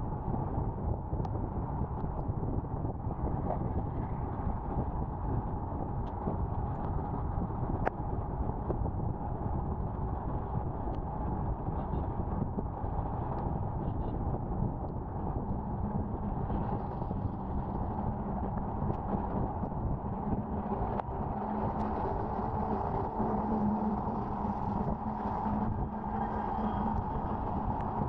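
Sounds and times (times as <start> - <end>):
low engine hum: 0.0 - 28.0
wind rush on microphone: 0.0 - 28.0.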